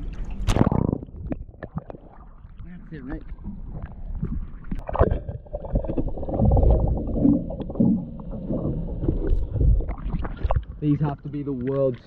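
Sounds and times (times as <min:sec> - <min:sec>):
water sloshing and gurgling: 0:00.0 - 0:12.0.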